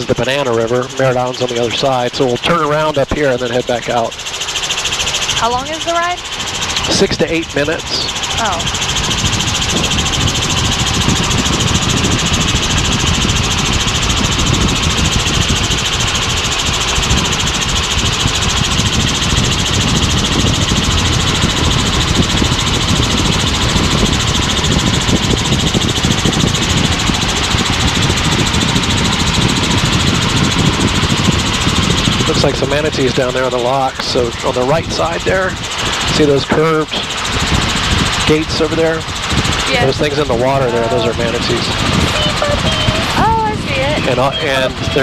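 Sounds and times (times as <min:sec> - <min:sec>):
helicopter engine and rotor drone: 0:00.0 - 0:45.0.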